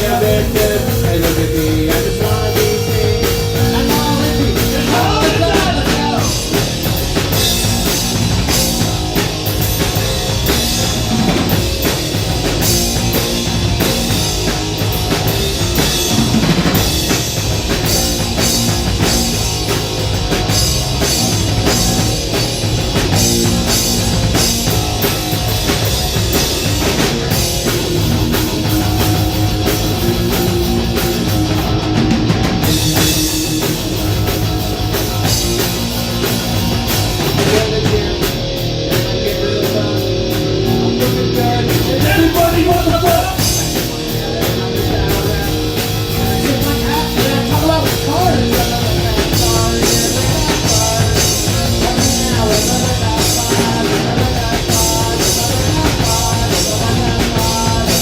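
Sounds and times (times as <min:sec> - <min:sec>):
bass guitar: 0:00.0 - 0:58.0
distorted electric guitars: 0:00.0 - 0:58.0
driving drum kit: 0:00.0 - 0:58.0.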